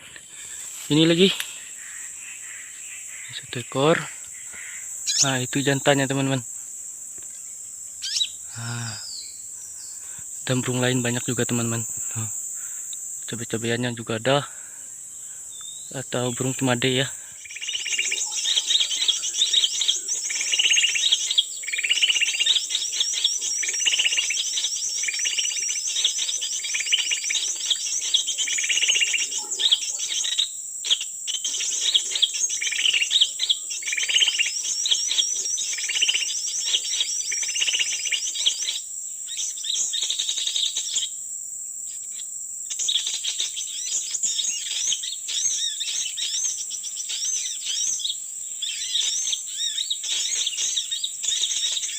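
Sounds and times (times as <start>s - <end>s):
birds chirping: 0.0s - 41.2s, 41.9s - 51.9s
high-pitched insect drone: 0.0s - 51.9s.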